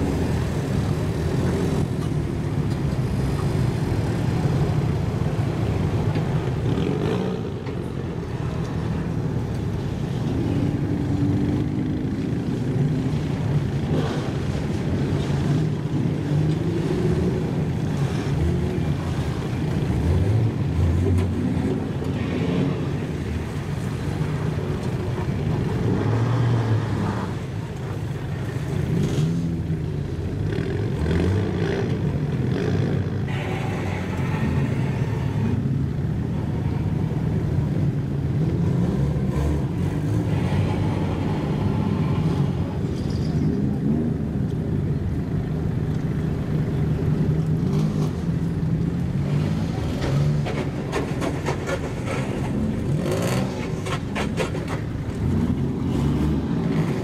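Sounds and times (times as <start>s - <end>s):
car engines running slowly: 0.0s - 57.0s.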